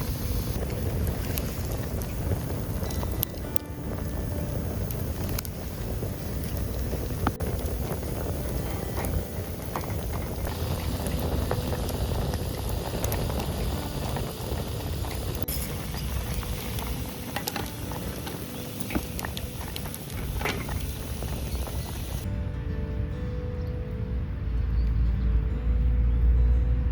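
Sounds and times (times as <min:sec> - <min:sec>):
campfire pops and crackles: 0:00.0 - 0:22.3
pot bubbling: 0:00.0 - 0:22.3
wind rumble on microphone: 0:00.0 - 0:26.9.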